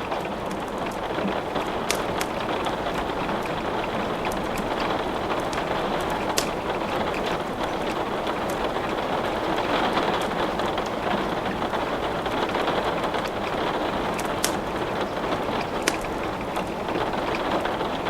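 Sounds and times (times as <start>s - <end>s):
steady rain falling: 0.0s - 18.0s
wood crackling in fireplace: 0.0s - 18.0s.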